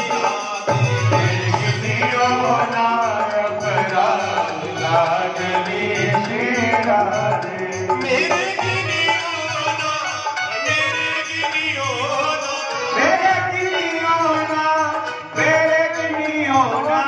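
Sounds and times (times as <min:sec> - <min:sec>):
hand drum rhythm: 0:00.0 - 0:17.0
man singing into microphone: 0:00.0 - 0:17.0
melodic accompaniment: 0:00.0 - 0:17.0.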